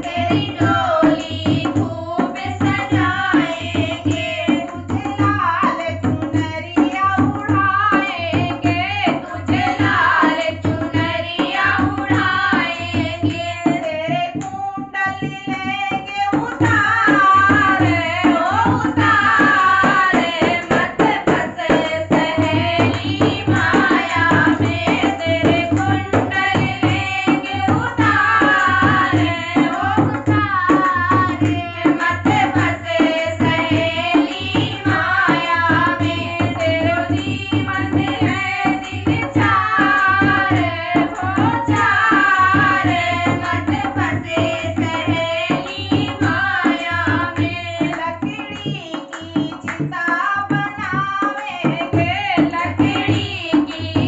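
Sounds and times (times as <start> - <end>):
hand drum beat: 0.0 - 54.0
women singing together: 0.0 - 54.0.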